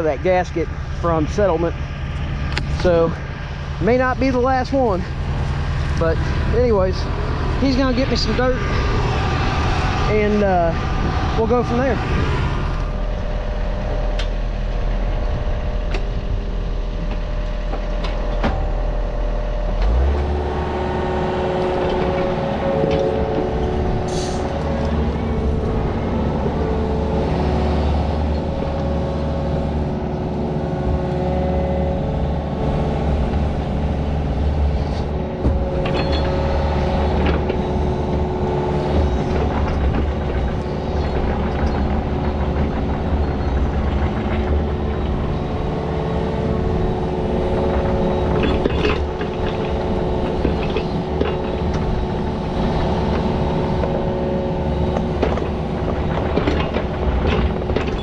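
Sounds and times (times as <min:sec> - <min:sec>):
heavy machine engine running: 0:00.0 - 0:58.0
whining tones: 0:00.0 - 0:58.0.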